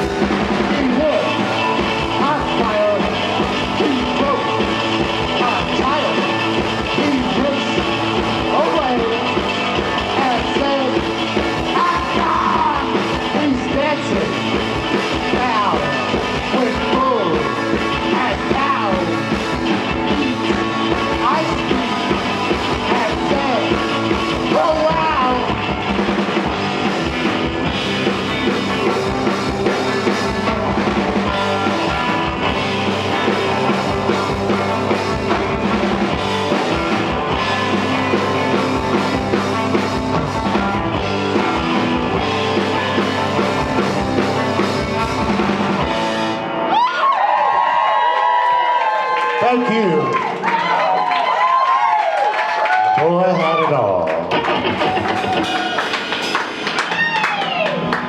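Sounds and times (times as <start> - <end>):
sliding guitar or vocal lines: 0.0 - 46.5
rock band playing live: 0.0 - 58.0.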